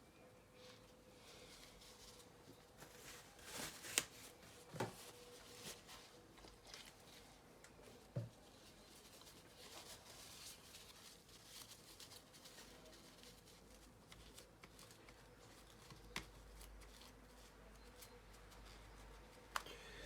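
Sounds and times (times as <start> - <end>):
paper towel rustling and scraping: 0.6 - 19.5.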